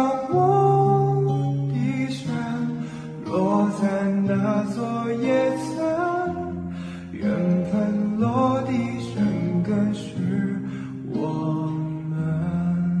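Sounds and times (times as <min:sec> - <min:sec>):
slow pop ballad with acoustic guitar: 0:00.0 - 0:13.0.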